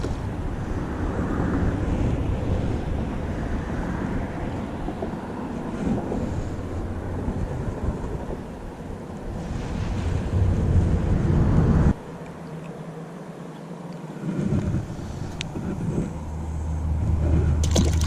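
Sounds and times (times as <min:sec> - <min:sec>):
wind buffeting microphone: 0:00.0 - 0:12.1, 0:14.0 - 0:18.0
outdoor background: 0:00.0 - 0:18.0.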